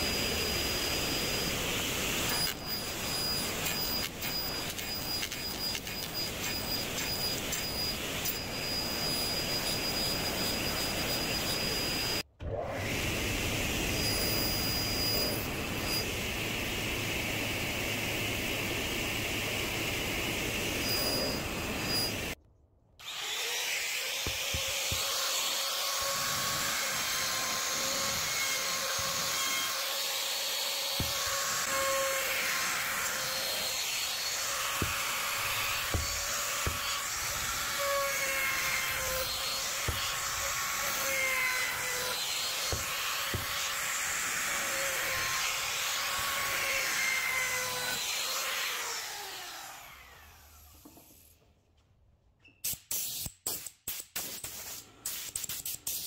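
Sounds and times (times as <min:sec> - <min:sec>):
table saw whine and hiss: 0:00.0 - 0:22.4, 0:23.0 - 0:51.3.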